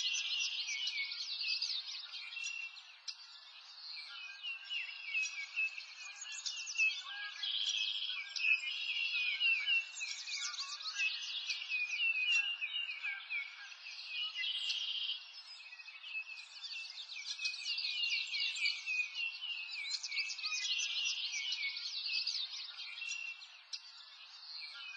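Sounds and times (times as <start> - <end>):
songbirds chirping: 0.0 - 24.9.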